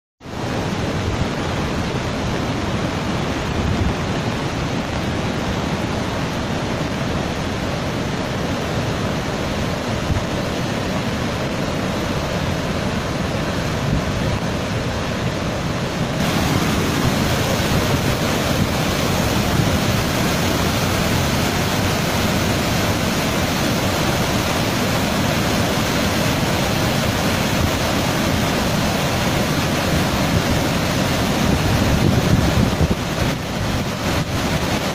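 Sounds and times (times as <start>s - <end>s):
rushing floodwater: 0.2s - 34.9s.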